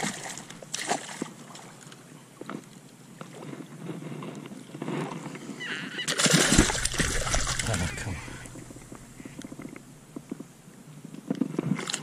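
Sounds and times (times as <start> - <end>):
water lapping: 0.0 - 10.8.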